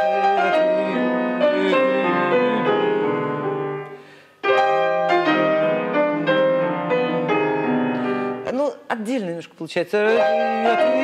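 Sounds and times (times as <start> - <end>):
classical piano music: 0.0 - 8.6, 10.0 - 11.0.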